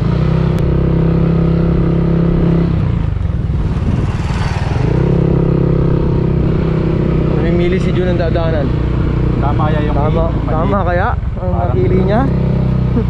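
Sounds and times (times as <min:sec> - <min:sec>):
motor scooter engine running: 0:00.0 - 0:13.0.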